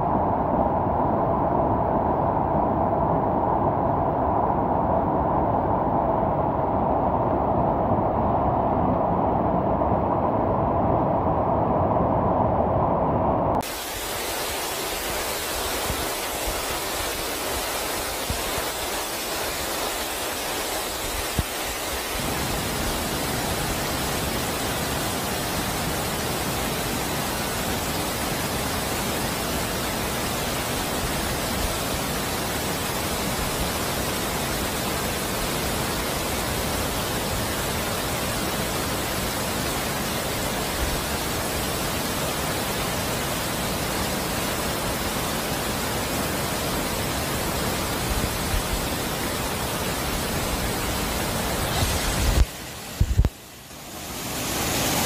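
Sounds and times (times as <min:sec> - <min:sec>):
rushing mountain stream: 0:00.0 - 0:55.0.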